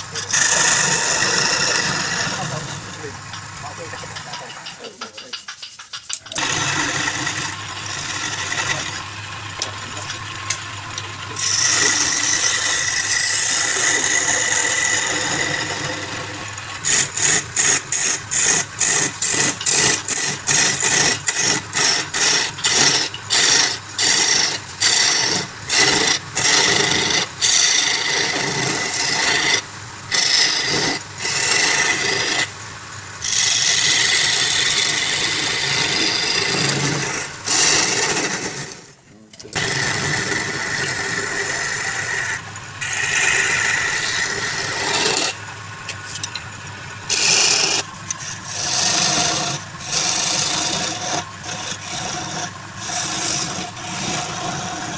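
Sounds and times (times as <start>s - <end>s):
wood lathe rasping scrape: 0.0s - 32.6s, 33.2s - 54.9s.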